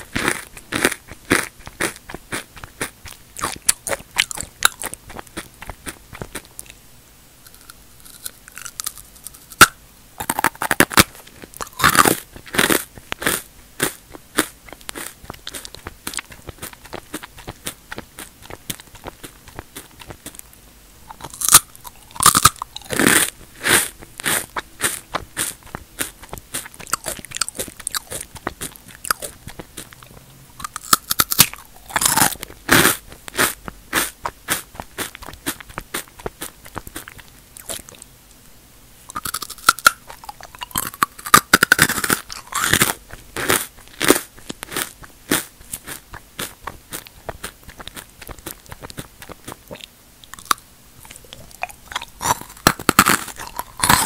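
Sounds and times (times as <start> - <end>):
crunching chips in mouth: 0.0 - 6.8, 7.4 - 20.5, 21.1 - 38.1, 39.1 - 54.0
soft chewing clicks: 0.0 - 6.8, 7.4 - 54.0.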